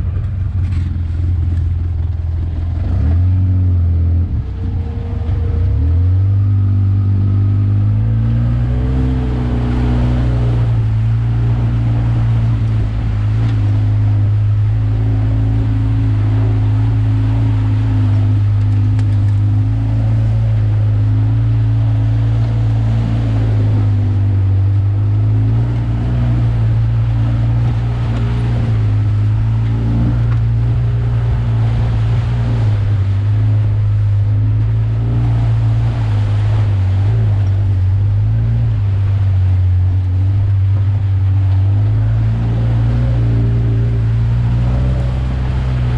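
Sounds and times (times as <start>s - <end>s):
atv engine humming: 0.0s - 45.9s.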